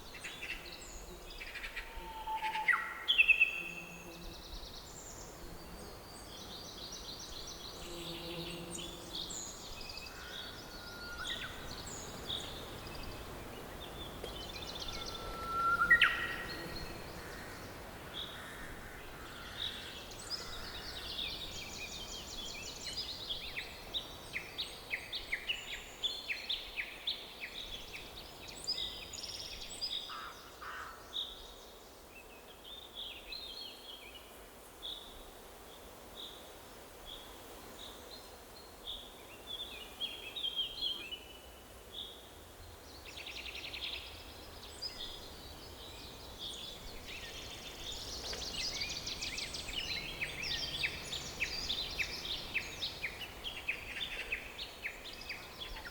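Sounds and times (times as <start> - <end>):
songbirds singing: 0.0 - 34.3, 37.0 - 55.9
faint background hiss: 0.0 - 55.9.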